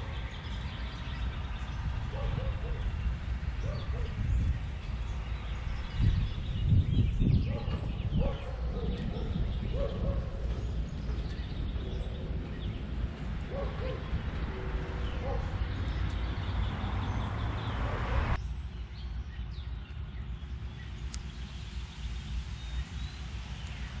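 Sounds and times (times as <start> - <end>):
bird calls and chirps: 0.0 - 24.0
low rumbling noise: 0.0 - 24.0.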